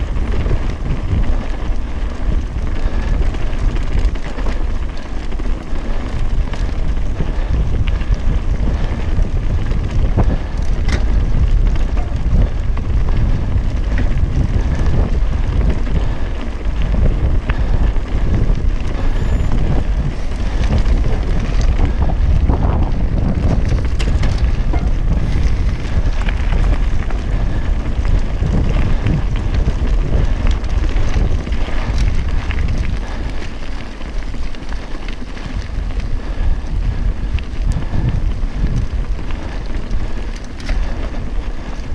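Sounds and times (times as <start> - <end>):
bike clicks and knocks: 0.0 - 41.9
wind buffeting microphone: 0.0 - 41.9.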